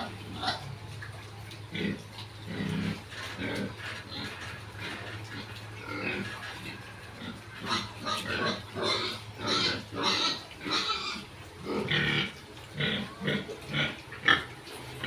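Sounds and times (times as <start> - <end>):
pigs calling in harsh bursts: 0.0 - 15.0.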